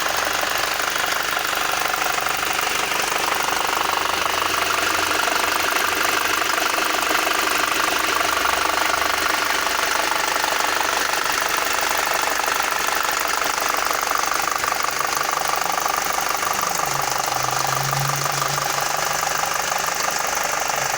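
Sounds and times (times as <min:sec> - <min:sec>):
car engine idling: 0:00.0 - 0:20.9
fast ticking clatter: 0:00.0 - 0:20.9.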